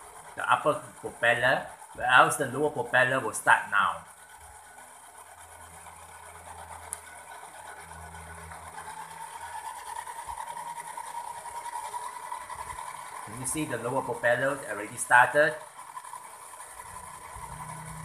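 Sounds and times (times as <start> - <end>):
toy helicopter motors whirring: 0.0 - 18.0.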